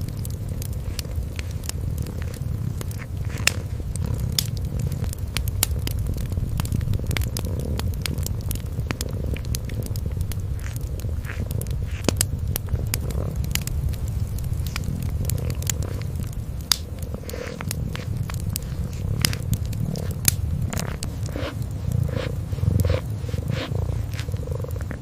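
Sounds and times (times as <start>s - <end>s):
cat purring: 0.0s - 25.0s
wood fire crackling and popping: 0.0s - 25.0s.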